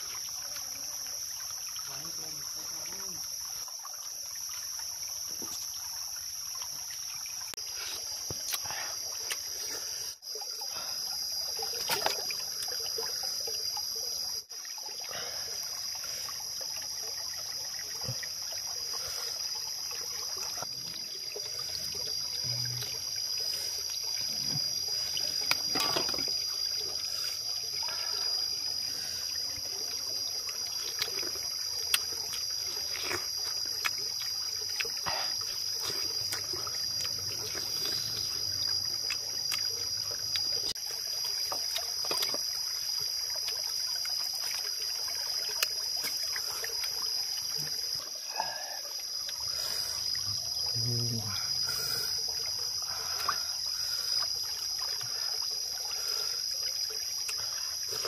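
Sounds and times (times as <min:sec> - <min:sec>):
high-pitched insect drone: 0:00.0 - 0:58.0
trickling water: 0:00.0 - 0:58.0.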